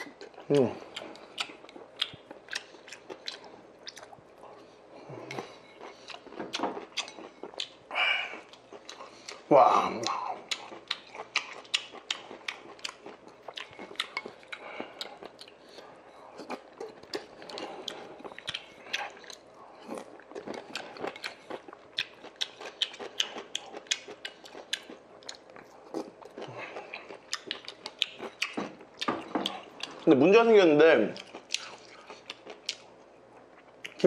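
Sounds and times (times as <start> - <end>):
wet chewing and mouth smacks: 0.0 - 30.1, 31.2 - 34.0.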